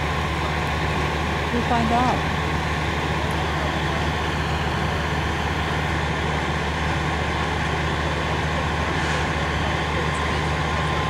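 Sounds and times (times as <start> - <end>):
fire truck engine idling: 0.0 - 11.0.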